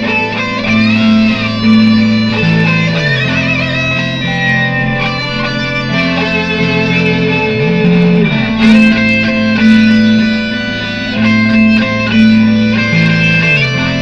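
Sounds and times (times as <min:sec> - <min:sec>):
electric guitar improvising: 0:00.0 - 0:14.0
looped guitar layer: 0:00.0 - 0:14.0.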